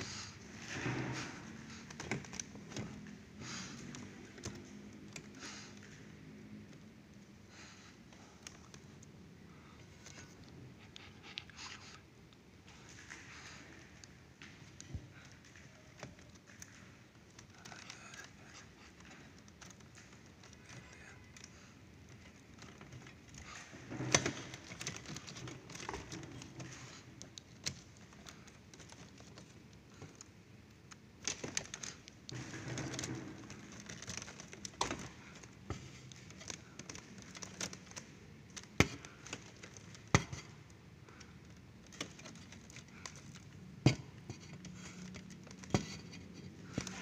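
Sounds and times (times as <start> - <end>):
cables rustling: 0.0 - 47.0.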